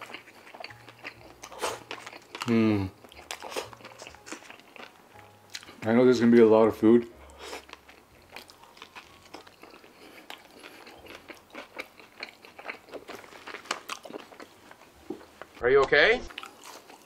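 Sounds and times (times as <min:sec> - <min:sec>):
person chewing food: 0:00.0 - 0:05.8, 0:07.2 - 0:15.6, 0:16.3 - 0:17.0.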